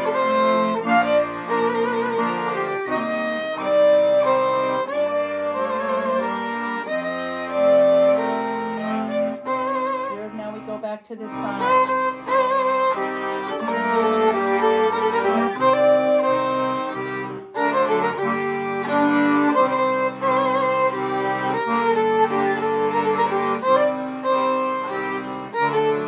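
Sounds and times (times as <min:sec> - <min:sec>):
accordion chords: 0:00.0 - 0:26.0
violin melody: 0:00.0 - 0:26.0.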